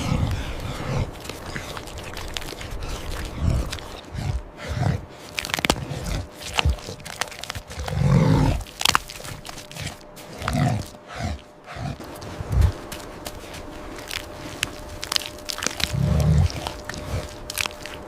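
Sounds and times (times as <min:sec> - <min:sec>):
animal grunting: 0:00.0 - 0:18.0
crunching and crackling: 0:00.0 - 0:18.0.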